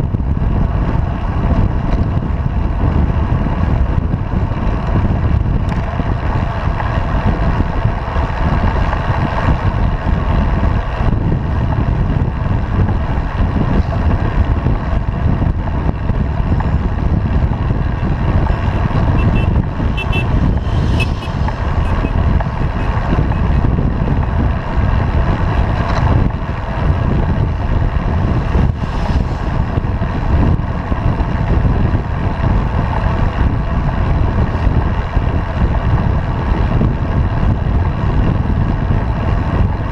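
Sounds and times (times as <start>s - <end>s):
tyre and road noise: 0.0s - 39.9s
wind buffeting microphone: 0.0s - 39.9s.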